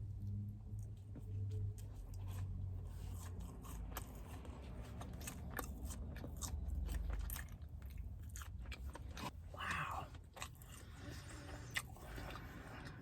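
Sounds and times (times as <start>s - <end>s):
chewing and biting: 0.7s - 13.0s.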